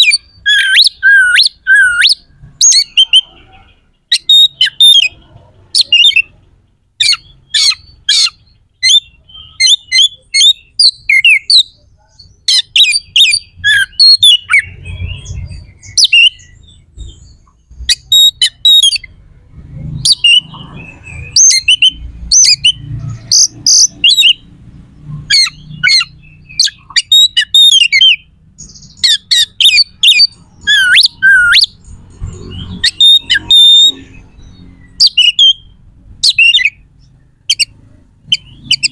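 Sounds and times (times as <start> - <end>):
bird singing harsh rapid song: 0.0 - 38.9.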